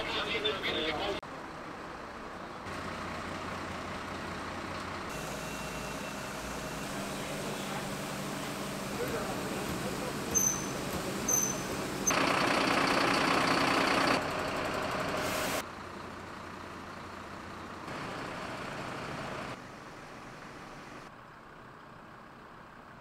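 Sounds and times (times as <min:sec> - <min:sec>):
fire engines idling: 0:00.0 - 0:23.0.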